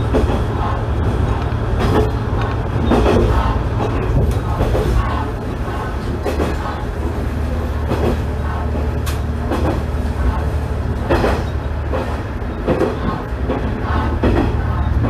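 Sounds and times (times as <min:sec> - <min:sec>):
railcar engine drone: 0:00.0 - 0:15.0
wheels clacking on rails: 0:00.0 - 0:15.0.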